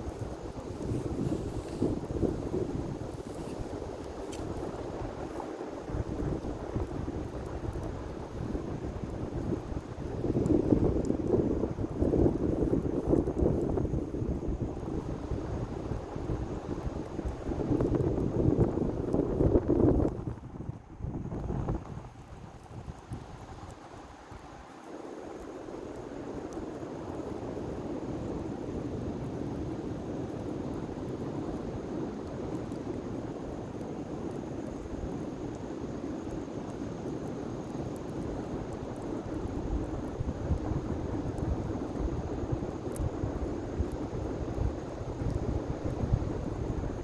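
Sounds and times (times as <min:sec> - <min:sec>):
wind buffeting microphone: 0:00.0 - 0:24.6, 0:25.4 - 0:47.0
bonfire burning: 0:00.0 - 0:47.0
fire crackling: 0:00.0 - 0:47.0.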